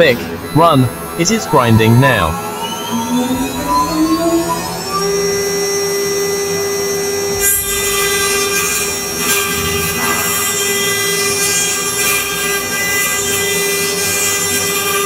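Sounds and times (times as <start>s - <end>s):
machine spindle whine: 0.0s - 15.0s
hissing grinding noise: 0.2s - 15.0s.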